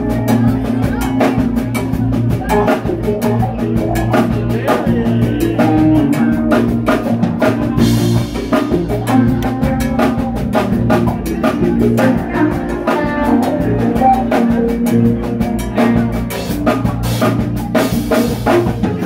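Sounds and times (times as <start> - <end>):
bass guitar: 0.0 - 19.0
drum kit steady beat: 0.0 - 19.0
electric guitars: 0.0 - 19.0.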